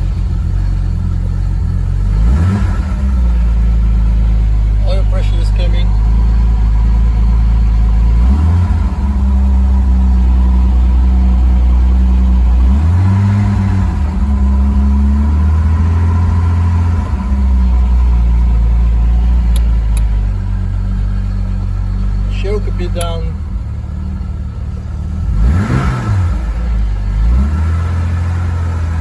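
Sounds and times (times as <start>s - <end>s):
car engine running on choke: 0.0s - 29.0s.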